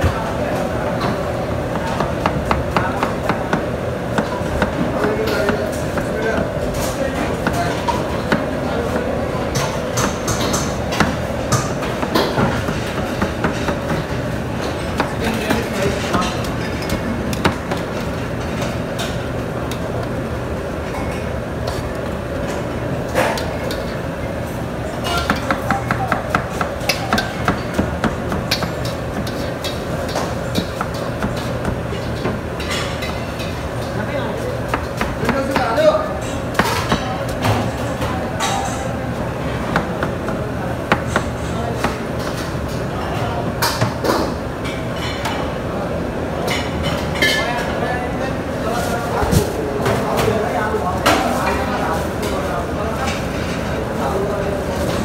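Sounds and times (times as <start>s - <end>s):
steady machine hum: 0.0s - 46.5s.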